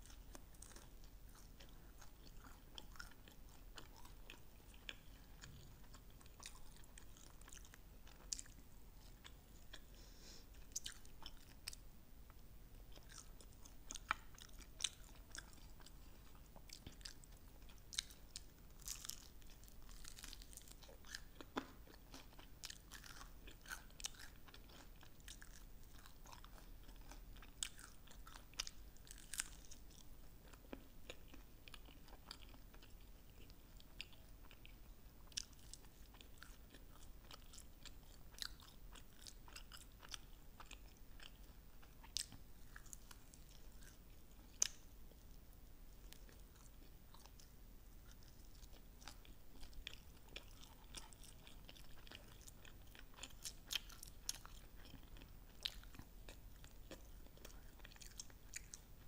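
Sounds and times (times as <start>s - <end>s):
person chewing chicken wings: 0.0s - 11.8s, 12.9s - 44.8s, 48.0s - 59.0s.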